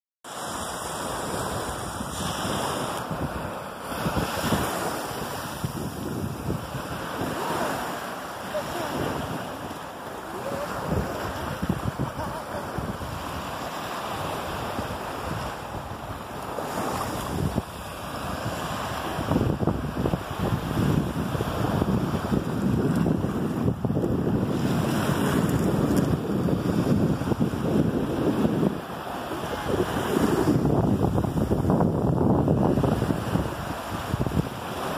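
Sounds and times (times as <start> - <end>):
waves washing on shore: 0.3 - 34.9
wind buffeting microphone: 0.6 - 34.9.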